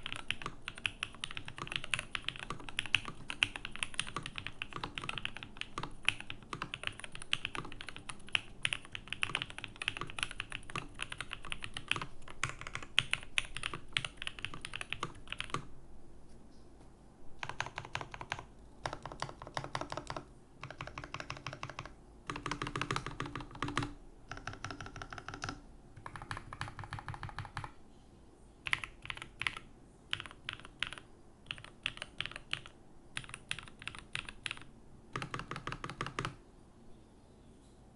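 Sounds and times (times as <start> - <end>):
mechanical keyboard typing: 0.0 - 15.7, 17.4 - 27.8, 28.6 - 36.4.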